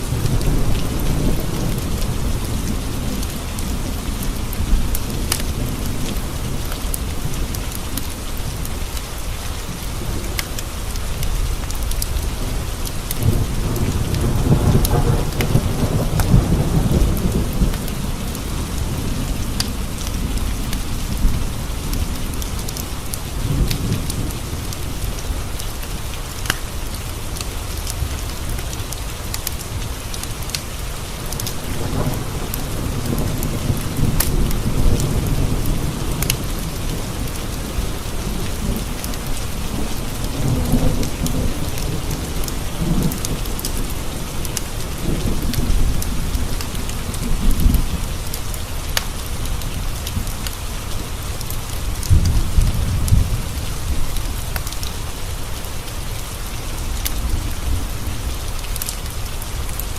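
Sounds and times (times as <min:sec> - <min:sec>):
thunder rumbling: 0:00.0 - 0:08.8, 0:09.6 - 0:59.9
steady rain: 0:00.0 - 0:59.9.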